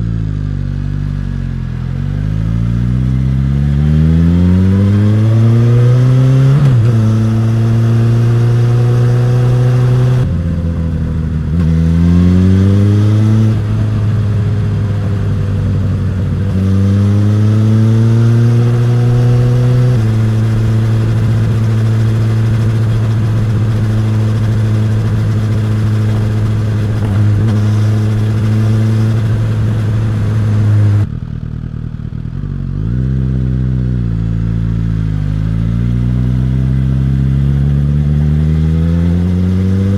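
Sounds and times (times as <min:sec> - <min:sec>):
motorcycle engine accelerating through gears: 0:00.0 - 0:39.9.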